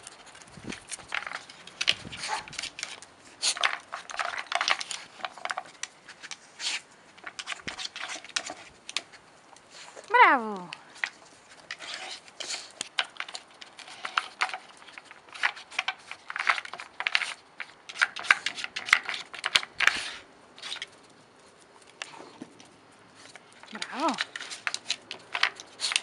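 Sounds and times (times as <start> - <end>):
wooden discs scraping and clicking: 0.0 - 26.0.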